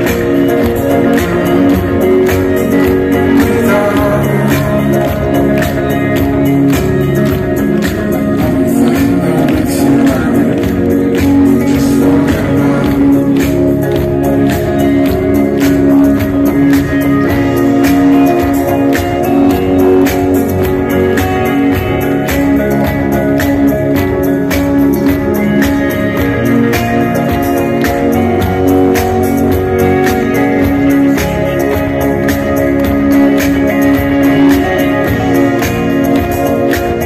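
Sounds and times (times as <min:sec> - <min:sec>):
live band playing: 0:00.0 - 0:37.0.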